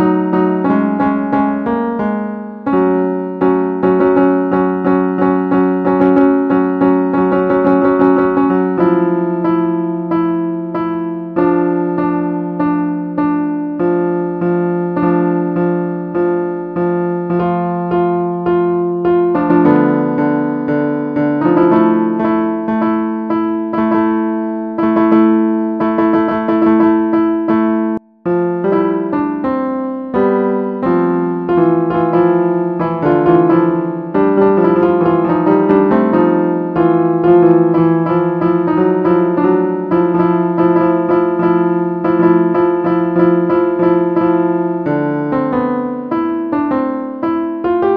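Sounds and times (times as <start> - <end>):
piano app tune: 0.0 - 47.9.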